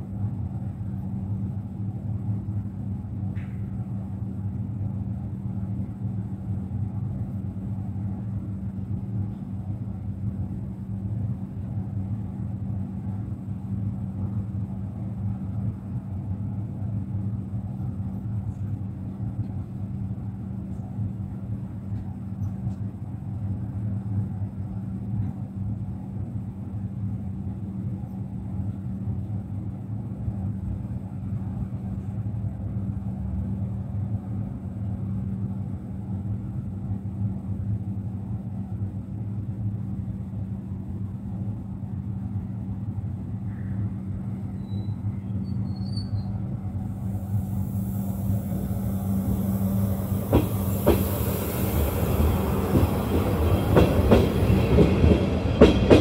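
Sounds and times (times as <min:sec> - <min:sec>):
electric train hum: 0:00.0 - 0:56.0.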